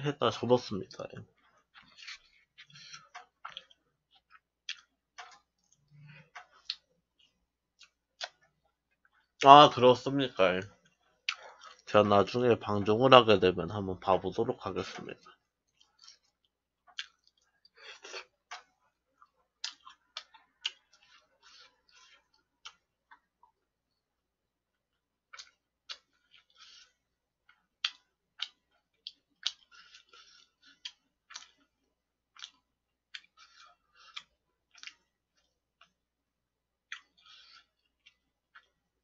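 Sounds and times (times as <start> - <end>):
soft chewing: 0.8 - 9.4, 10.3 - 12.3, 14.8 - 39.0.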